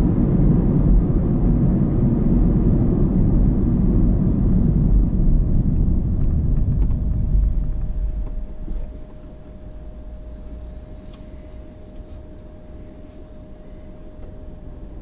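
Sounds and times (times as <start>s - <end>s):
tyre and engine rumble inside car: 0.0s - 15.0s.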